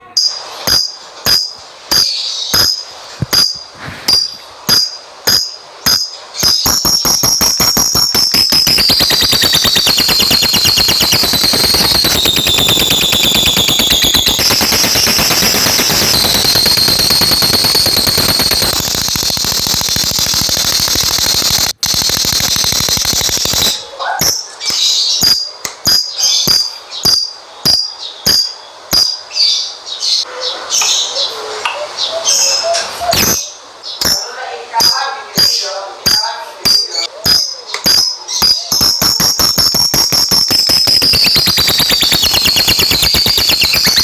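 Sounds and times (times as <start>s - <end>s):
lovebird buzzy chatter and whistling: 0.0s - 44.0s
bird chirps and clicks: 0.2s - 2.8s, 3.4s - 29.2s, 33.1s - 44.0s.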